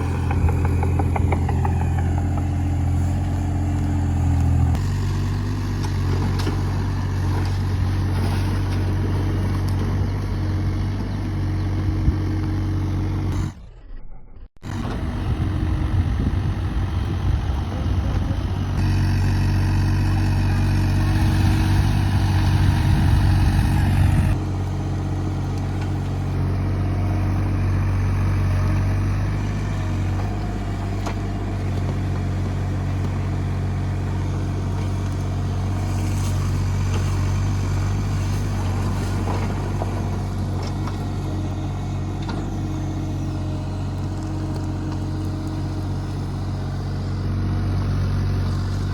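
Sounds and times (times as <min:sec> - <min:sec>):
excavator diesel engine running: 0:00.0 - 0:14.0, 0:14.6 - 0:48.9.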